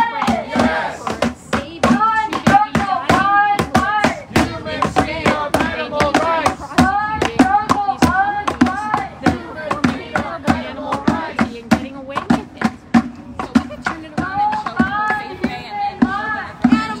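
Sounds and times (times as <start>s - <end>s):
protesters chanting: 0.0s - 17.0s
sharp percussive beats: 0.0s - 17.0s.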